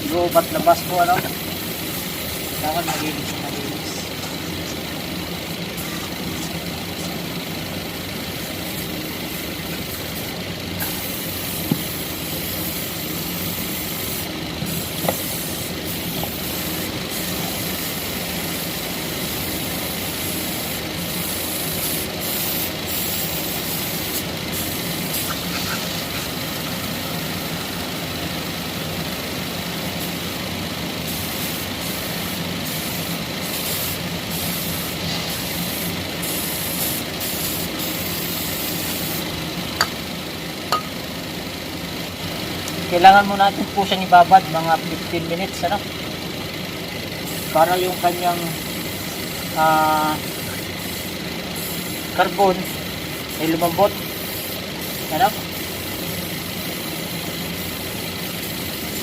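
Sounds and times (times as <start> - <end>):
steady engine drone: 0.0 - 59.0.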